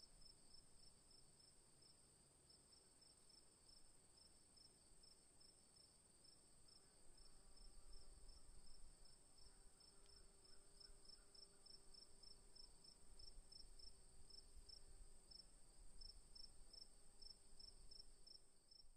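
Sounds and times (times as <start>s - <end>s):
faint cricket chirping: 0.0s - 18.9s.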